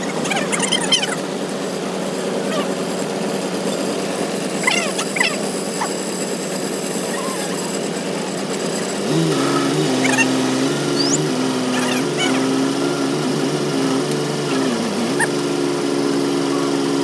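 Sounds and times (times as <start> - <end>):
small motor changing pitch: 0.0 - 1.4, 4.6 - 17.0
steady engine hum: 0.0 - 17.0.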